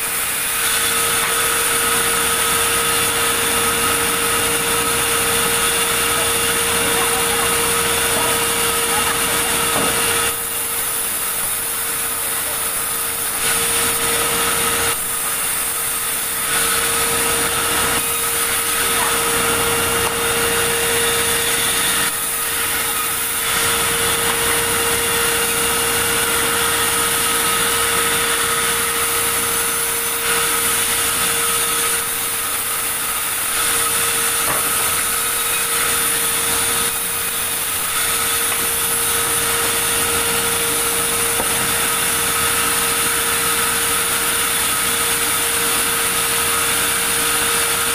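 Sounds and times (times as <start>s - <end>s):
sawmill saw whining: 0.0s - 47.9s.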